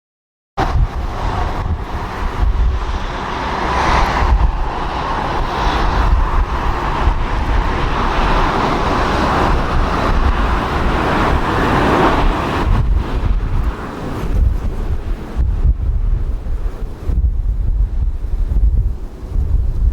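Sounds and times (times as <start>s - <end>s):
gusty wind buffeting microphone: 0.6s - 19.9s.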